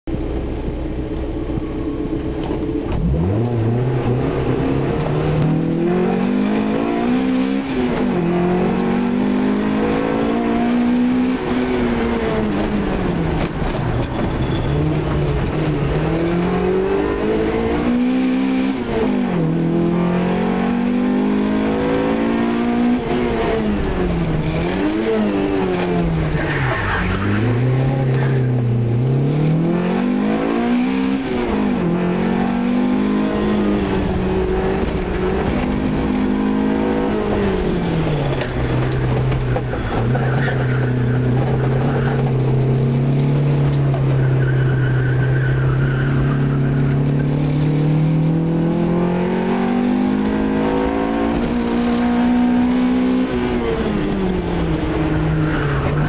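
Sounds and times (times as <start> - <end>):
car engine revving: 0.1 - 56.0.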